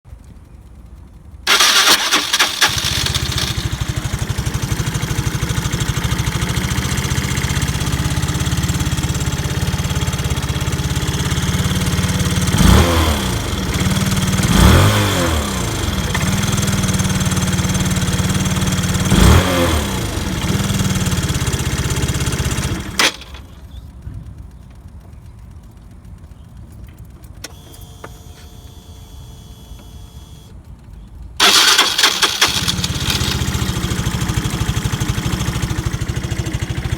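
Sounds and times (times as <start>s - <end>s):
scooter engine idling and revving: 1.5s - 25.2s, 27.5s - 36.9s.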